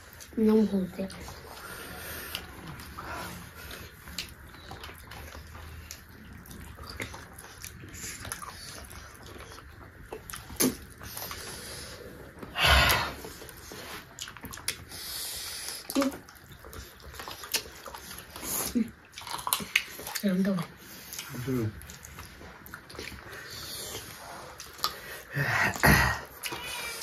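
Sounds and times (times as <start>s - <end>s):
wet chewing and lip-smacking: 0.0s - 27.0s.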